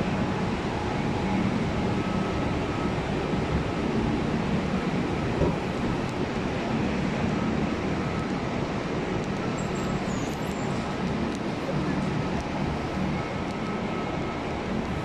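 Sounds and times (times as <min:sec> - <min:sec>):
station concourse hum and rumble: 0:00.0 - 0:15.0.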